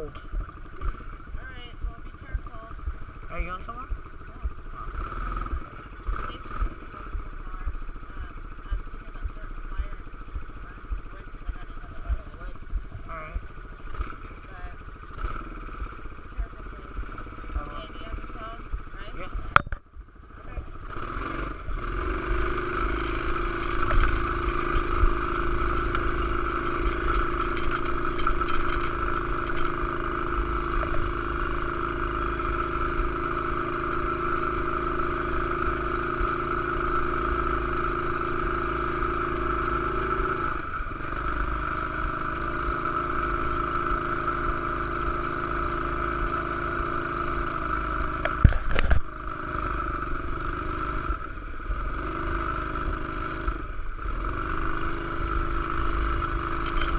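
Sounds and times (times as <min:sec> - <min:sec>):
small motorcycle engine running: 0:00.0 - 0:56.9.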